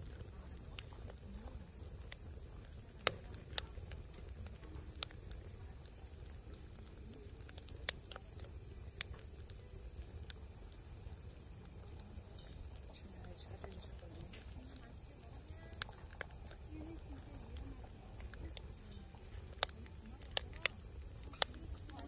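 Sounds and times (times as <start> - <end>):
firewood crackling and popping: 0.0 - 22.0
low steady fire rumble: 0.0 - 22.0.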